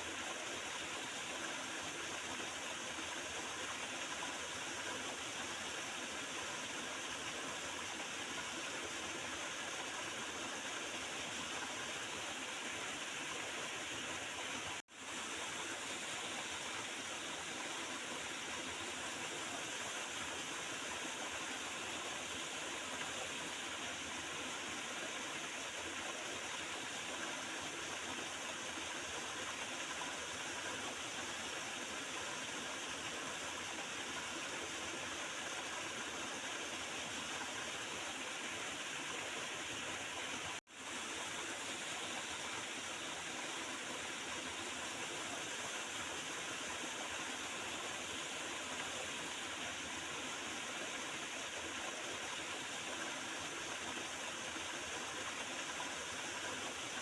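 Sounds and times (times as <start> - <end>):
river water flowing and gurgling: 0.0 - 57.0.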